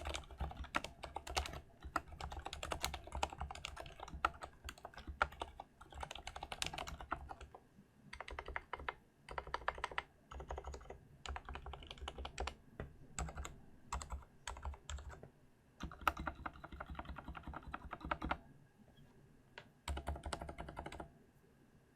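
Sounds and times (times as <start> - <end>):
mechanical keyboard typing: 0.0 - 12.6, 13.2 - 15.2, 15.8 - 18.4, 19.9 - 21.1.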